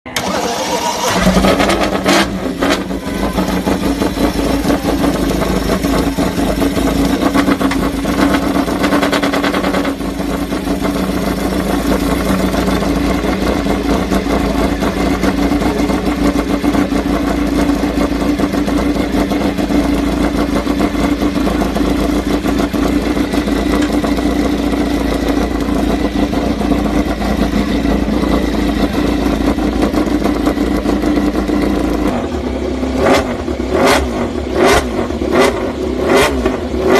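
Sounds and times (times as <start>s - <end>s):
motorcycle engine idling: 1.1s - 33.7s.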